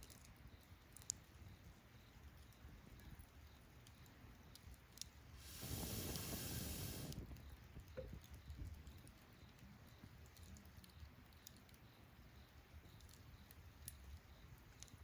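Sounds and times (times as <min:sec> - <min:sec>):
campfire crackling: 0:00.0 - 0:15.0
fire pops and clicks: 0:00.0 - 0:15.0.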